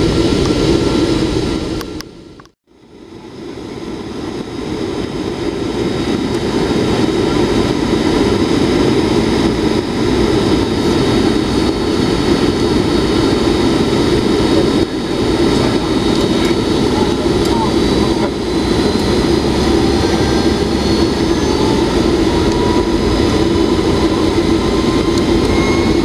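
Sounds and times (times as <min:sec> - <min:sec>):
jet engine hum: 0:00.0 - 0:26.0
rushing air: 0:04.5 - 0:26.0.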